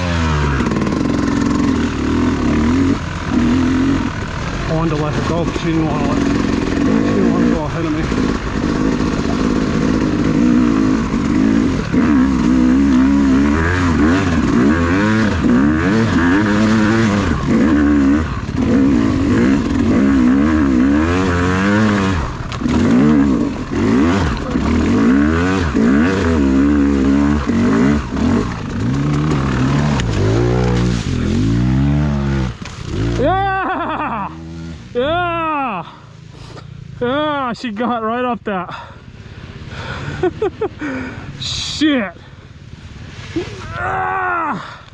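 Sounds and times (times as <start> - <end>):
dirt bike engine revving: 0.0 - 43.7.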